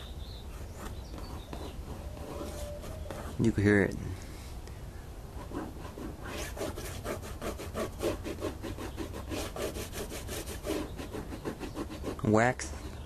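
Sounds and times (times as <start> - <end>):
towel rubbing painted panel: 0.5 - 3.6, 5.4 - 13.0.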